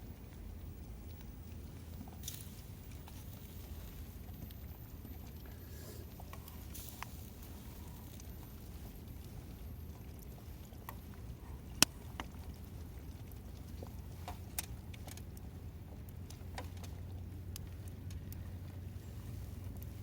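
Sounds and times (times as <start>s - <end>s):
campfire crackling and popping: 0.0s - 20.0s
low steady rumble: 0.0s - 20.0s.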